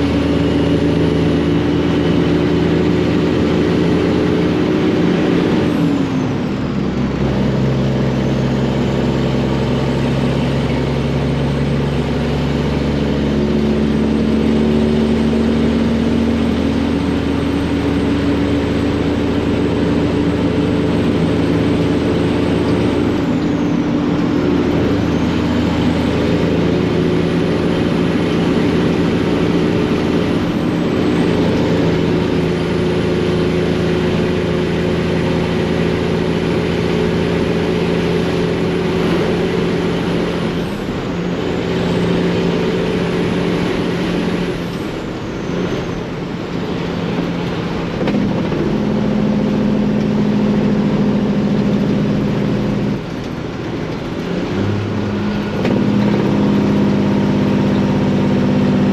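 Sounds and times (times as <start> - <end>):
diesel truck engine pulling away: 0.0 - 58.9.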